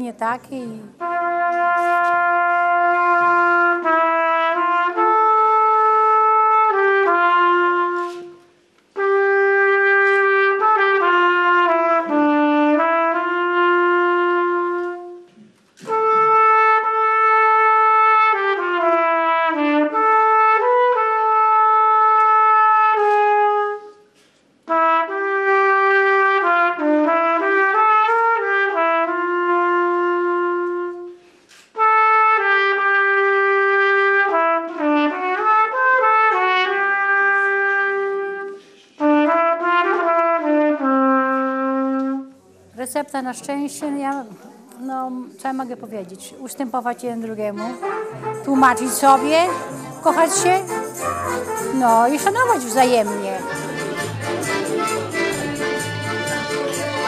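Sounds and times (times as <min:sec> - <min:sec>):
solo trumpet melody: 0:00.9 - 0:42.4, 0:47.6 - 0:57.0.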